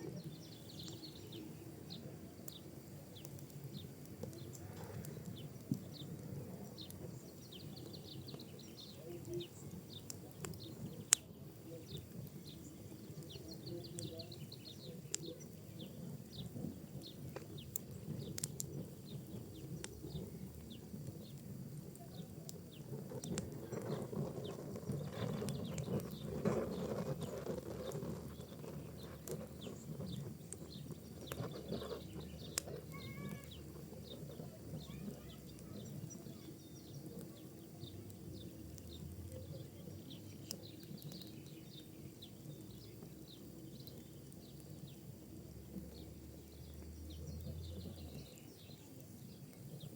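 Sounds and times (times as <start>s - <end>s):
sharp pops and snaps: 0.0s - 1.1s, 2.4s - 49.9s
fire crackling in a fireplace: 0.0s - 49.9s.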